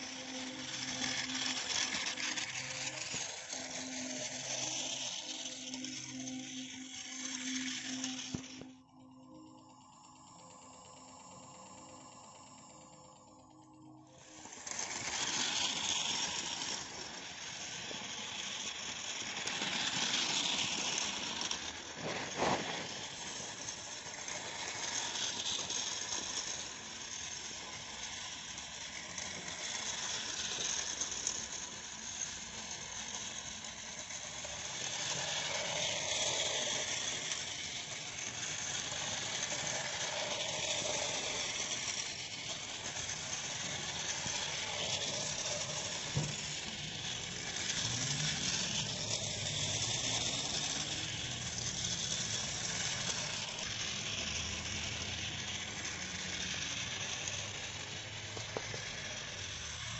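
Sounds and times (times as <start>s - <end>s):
toy train motor whirring: 0.0s - 59.9s
toy train wheels clattering: 0.0s - 59.9s.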